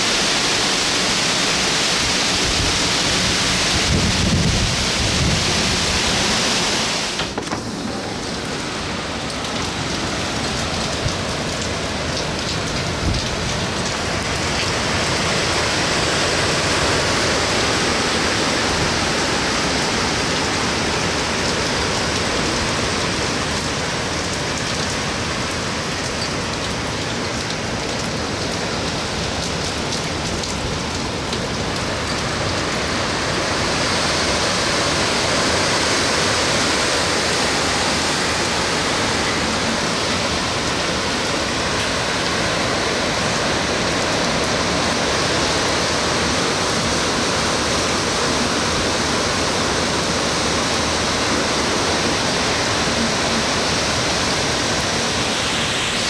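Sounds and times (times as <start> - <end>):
heavy rain and wind: 0.0 - 56.0.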